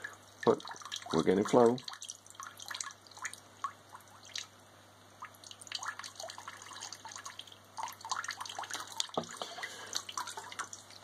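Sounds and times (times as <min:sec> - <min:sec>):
water drips and plops: 0:00.0 - 0:04.6, 0:05.2 - 0:11.0
water trickling into bucket: 0:00.0 - 0:04.6, 0:05.2 - 0:11.0
aquarium pump humming: 0:00.0 - 0:11.0.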